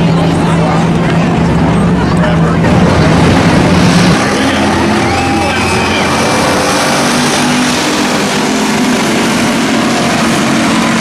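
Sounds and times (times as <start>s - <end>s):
stock car engines racing: 0.0s - 11.0s.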